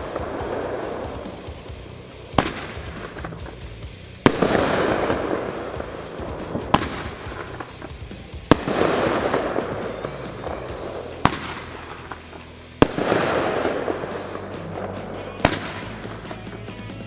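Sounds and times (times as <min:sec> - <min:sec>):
crackle of bursting stars: 0:00.0 - 0:16.3
fireworks reports: 0:00.0 - 0:17.0.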